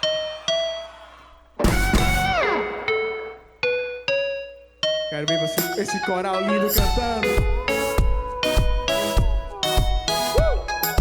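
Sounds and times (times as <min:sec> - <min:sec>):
picked guitar notes: 0:01.6 - 0:11.0.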